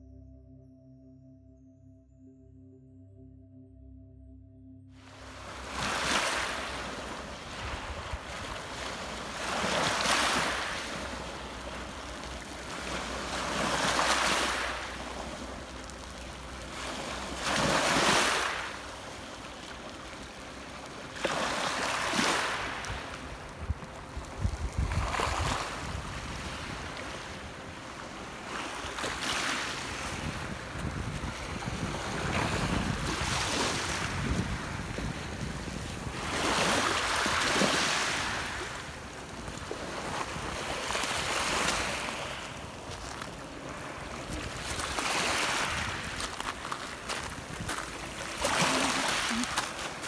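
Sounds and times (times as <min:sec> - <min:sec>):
waves lapping on pebble beach: 0:05.1 - 0:50.0.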